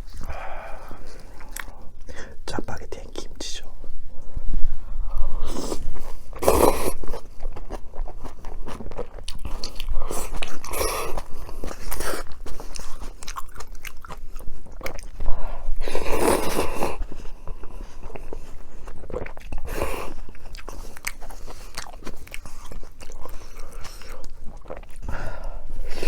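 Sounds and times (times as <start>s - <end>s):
chewing and crunchy bites: 0.0s - 2.1s, 5.1s - 26.0s.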